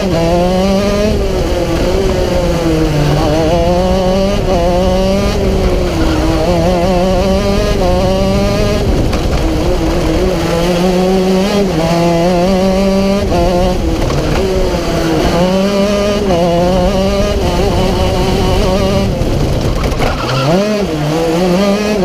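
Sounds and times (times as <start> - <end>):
kart engine revving: 0.0 - 22.0.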